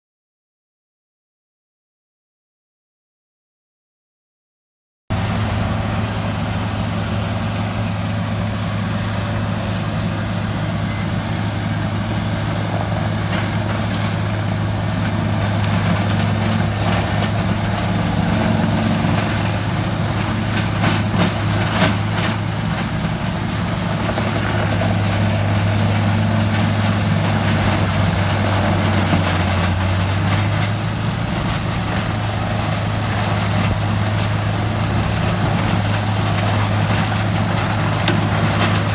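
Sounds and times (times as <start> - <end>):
diesel engine running: 5.1 - 38.9
high whine: 5.1 - 38.9.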